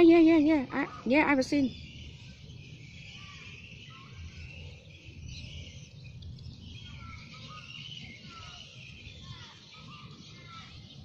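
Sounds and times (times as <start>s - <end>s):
small birds chirping: 0.0s - 11.0s
steady high-pitched hiss: 0.0s - 11.0s.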